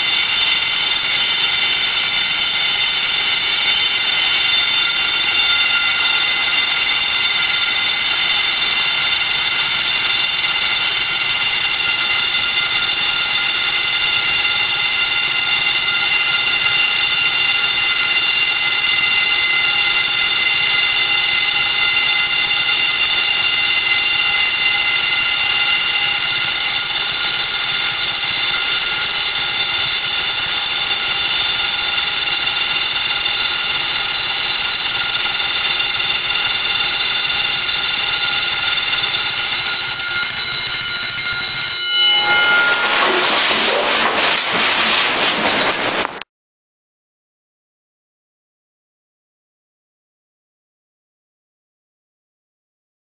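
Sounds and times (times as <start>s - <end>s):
alarm bells ringing underwater: 0.0s - 44.1s
rough noisy ringing: 0.0s - 46.2s.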